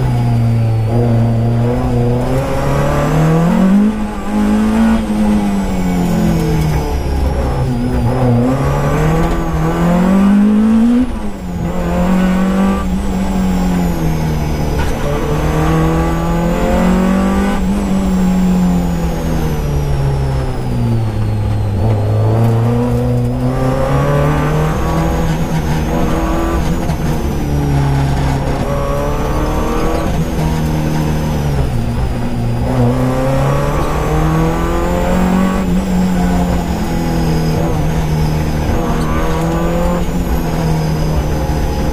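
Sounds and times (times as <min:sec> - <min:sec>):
rally car engine revving: 0:00.0 - 0:41.9.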